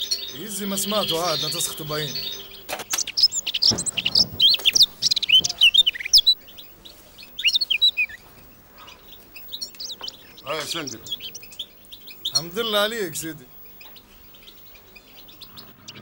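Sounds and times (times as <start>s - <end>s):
songbird chirping and trilling: 0.0s - 16.0s.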